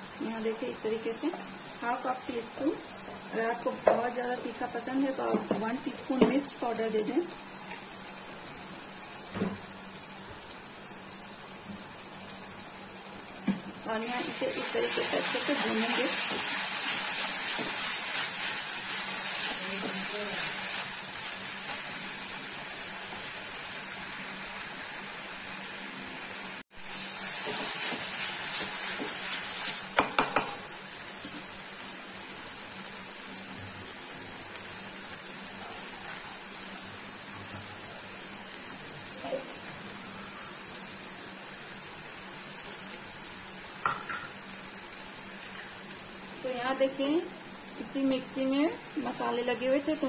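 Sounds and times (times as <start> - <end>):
paste sizzling in oil: 0.0 - 50.0.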